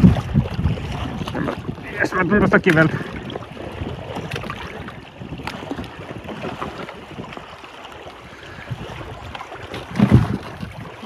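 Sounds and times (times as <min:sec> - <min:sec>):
water lapping against canoe: 0:00.0 - 0:11.0
wind buffeting microphone: 0:00.0 - 0:11.0.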